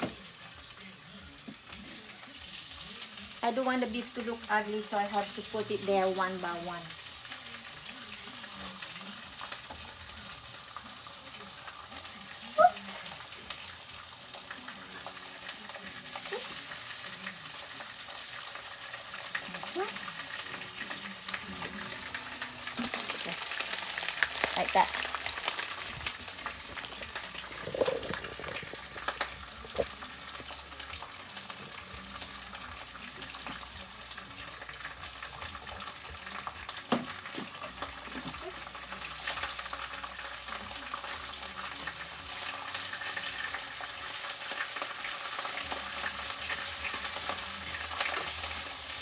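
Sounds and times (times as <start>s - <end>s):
beef sizzling in a pan: 0.0s - 49.0s.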